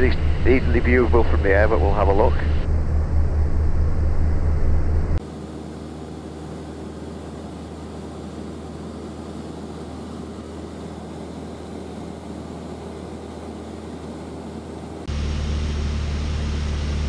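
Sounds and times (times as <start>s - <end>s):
light aircraft engine drone in cabin: 0.0s - 17.0s.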